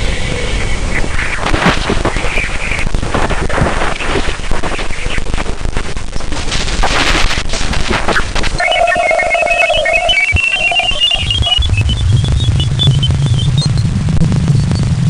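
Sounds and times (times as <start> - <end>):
crackling static with clicks: 0.0 - 15.0.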